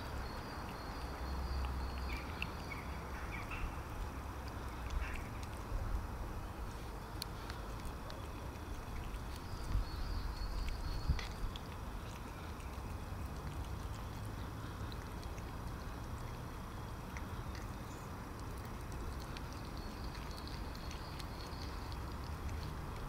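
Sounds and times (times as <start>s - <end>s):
cat chewing and licking food: 0.0s - 23.0s
steady low rumble: 1.2s - 23.0s.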